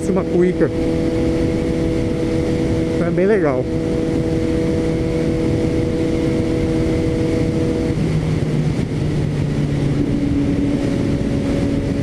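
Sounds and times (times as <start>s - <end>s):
motorcycle engine running: 0.0s - 12.0s
wind rushing on microphone: 0.0s - 12.0s.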